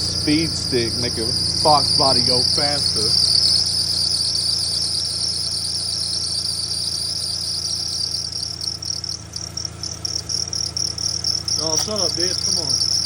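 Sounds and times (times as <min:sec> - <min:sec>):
engine belt squealing: 0:00.0 - 0:13.0
engine running low hum: 0:00.0 - 0:13.0.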